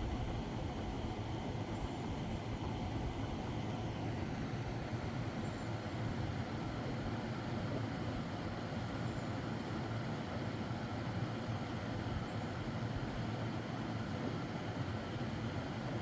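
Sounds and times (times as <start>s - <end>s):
fan and air conditioner hum: 0.0s - 16.0s.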